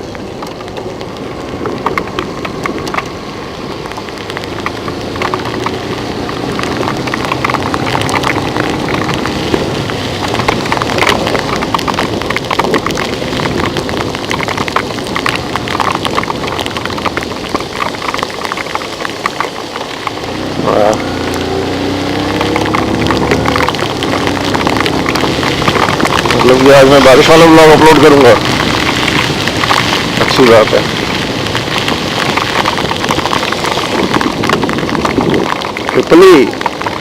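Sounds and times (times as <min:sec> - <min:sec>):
large raindrops pattering: 0:00.0 - 0:37.0
steady rain hiss: 0:00.0 - 0:37.0.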